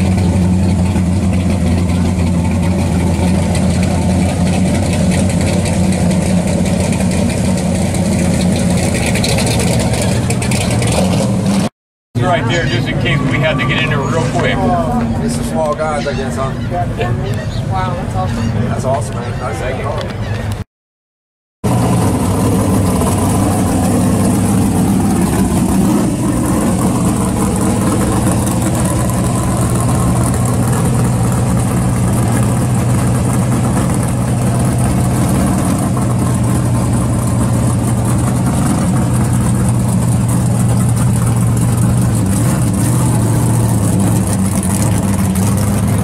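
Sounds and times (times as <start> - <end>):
car engine idling: 0.0 - 18.4, 21.6 - 46.0.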